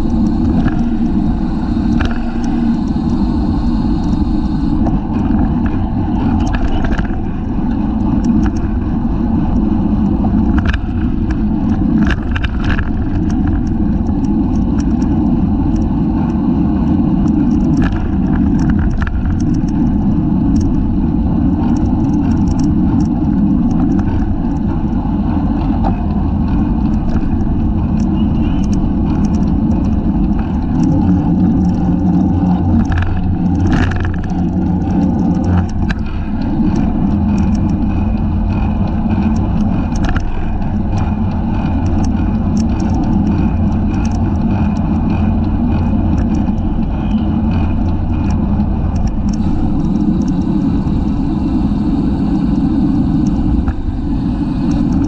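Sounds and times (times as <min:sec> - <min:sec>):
short clicks and rattles: 0:00.0 - 0:55.0
wind buffeting microphone: 0:00.0 - 0:55.0.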